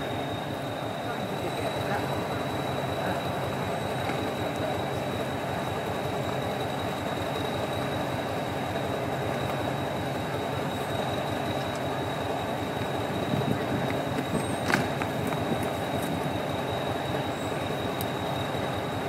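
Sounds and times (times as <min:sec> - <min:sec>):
diesel train engine idling: 0:00.0 - 0:19.0.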